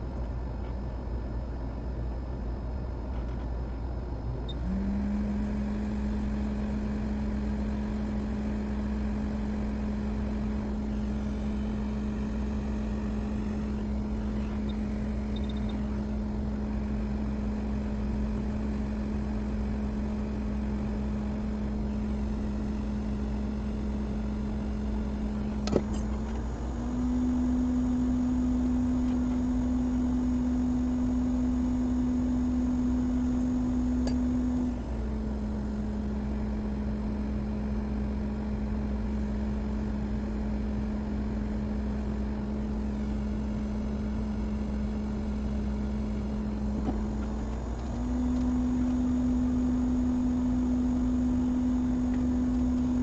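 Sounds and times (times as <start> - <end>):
low background drone: 0.0 - 53.0
small electric motor humming: 4.6 - 37.8, 38.7 - 53.0.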